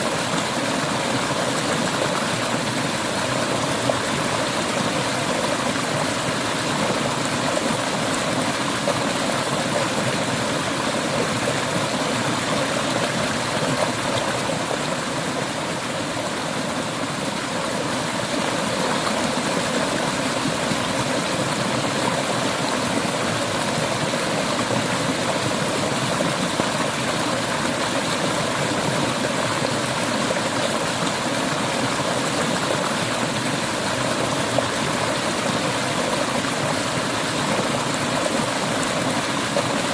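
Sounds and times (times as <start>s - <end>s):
stream gurgling over rocks: 0.0s - 39.9s.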